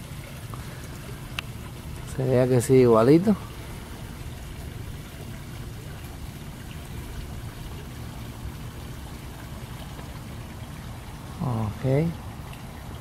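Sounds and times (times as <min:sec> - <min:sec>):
fountain water trickling and splashing: 0:00.0 - 0:13.0.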